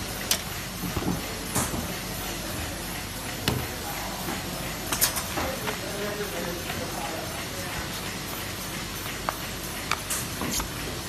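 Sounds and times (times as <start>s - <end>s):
machine clacks: 0.0s - 11.0s
machine running with mechanical din: 0.0s - 11.0s.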